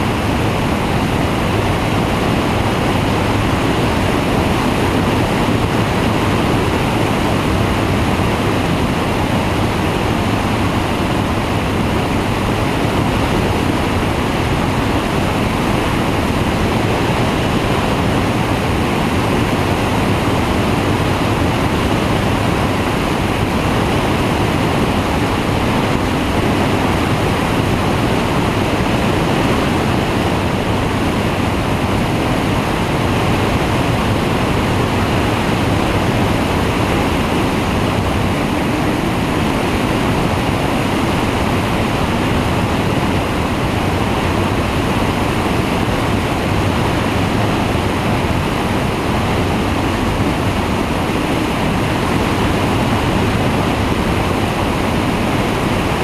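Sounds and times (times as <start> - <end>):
engine and propeller drone: 0.0 - 56.0
wind rushing on microphone: 0.0 - 56.0.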